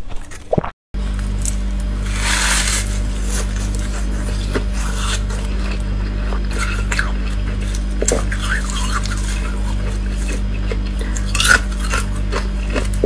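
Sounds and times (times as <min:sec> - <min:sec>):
low electrical hum: 0:00.0 - 0:13.0
ice crunching as chewed: 0:01.4 - 0:13.0.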